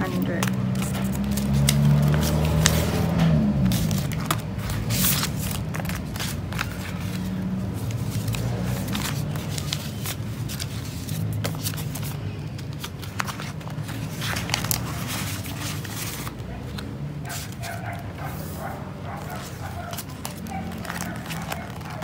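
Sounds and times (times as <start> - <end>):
banknotes rustling: 0.0 - 22.0.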